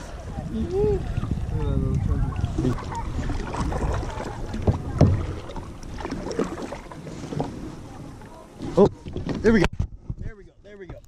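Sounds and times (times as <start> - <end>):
paddle splashing in water: 0.0 - 10.2
wind rumbling on microphone: 0.0 - 11.0.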